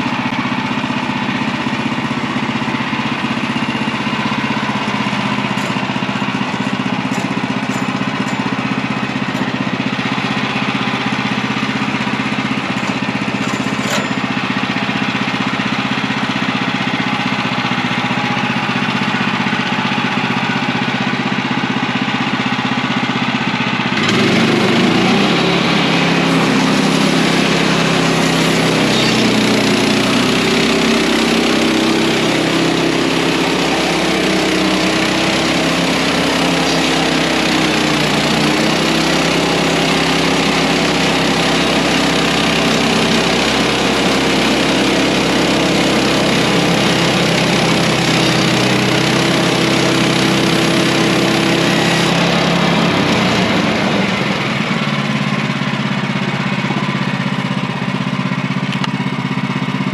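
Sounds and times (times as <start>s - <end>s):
sawmill gas engine running: 0.0s - 59.9s.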